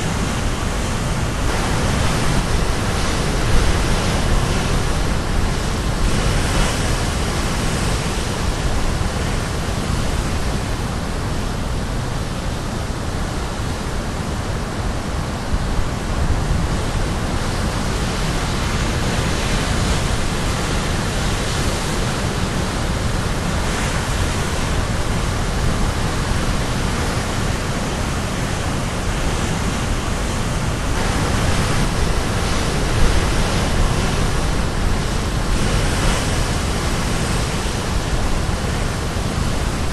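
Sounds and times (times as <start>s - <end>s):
waves crashing on shore: 0.0s - 39.9s
wind on microphone: 0.0s - 39.9s.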